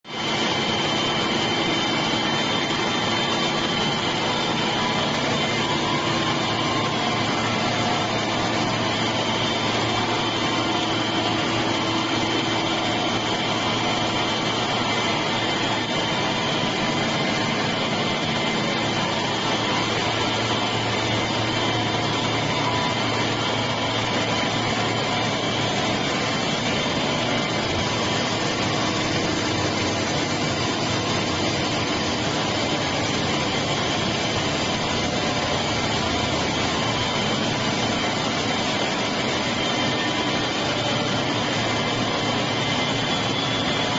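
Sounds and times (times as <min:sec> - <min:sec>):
centrifuge machine whirring: 0:00.1 - 0:43.9.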